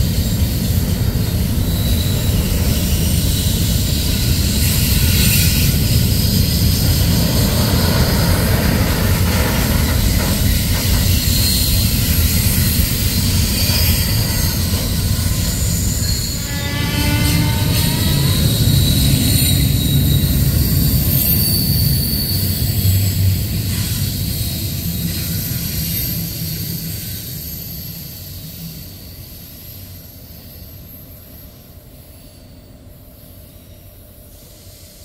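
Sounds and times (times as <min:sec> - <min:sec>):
high wheel squeal: 0:00.0 - 0:33.8
train wheels rumbling on rails: 0:00.0 - 0:35.0.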